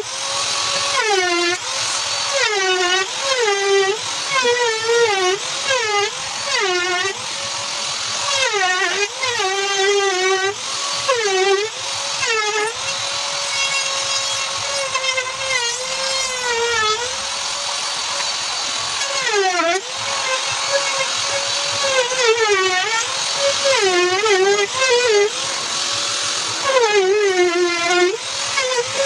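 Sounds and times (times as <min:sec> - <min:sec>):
power tool motor whining: 0:00.0 - 0:29.0.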